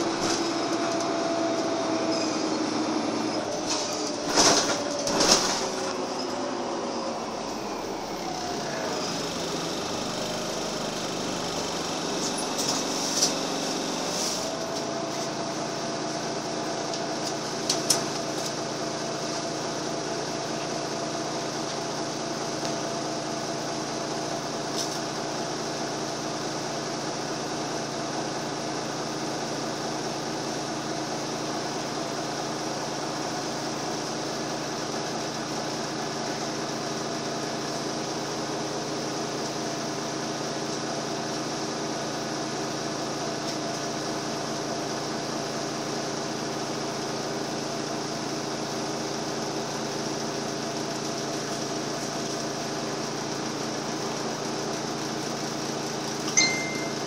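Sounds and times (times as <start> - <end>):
bus engine hum and whine: 0.0 - 57.0.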